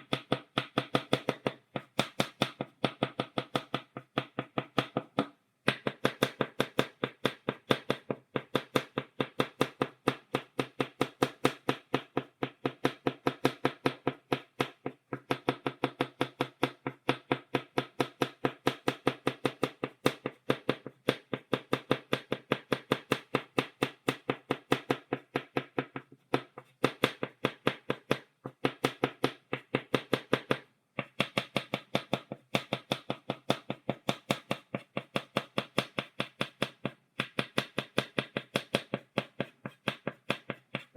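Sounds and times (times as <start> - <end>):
chalk tapping on blackboard: 0.0 - 40.9.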